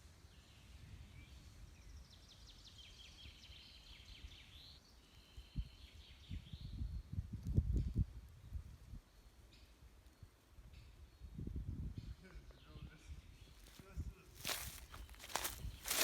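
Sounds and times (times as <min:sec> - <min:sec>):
songbird chirping and trilling: 0:00.3 - 0:07.2, 0:08.5 - 0:16.0.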